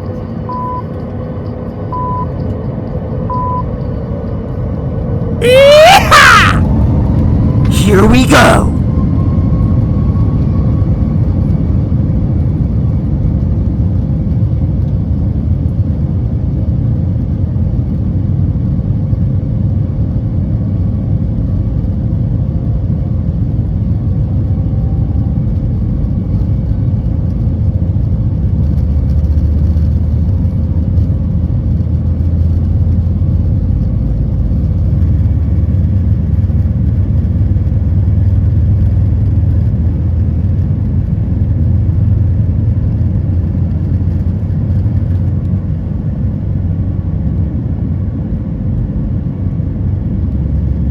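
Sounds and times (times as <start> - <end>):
faint engine whine: 0.0 - 5.4, 8.8 - 50.9.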